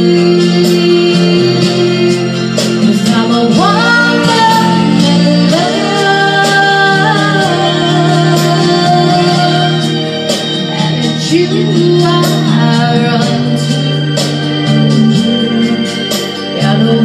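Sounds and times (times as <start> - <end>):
instrumental backing music: 0.0 - 17.0
woman singing into microphone: 0.0 - 17.0.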